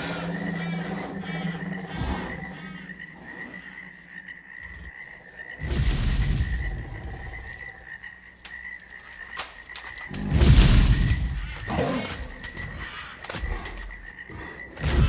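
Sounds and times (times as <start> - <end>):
frogs trilling: 0.0 - 15.0.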